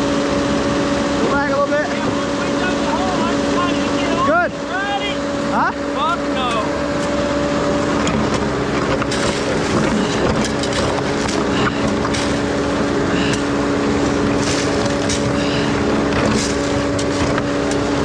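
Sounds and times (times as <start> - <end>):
diesel engine under hydraulic load: 0.0 - 18.0.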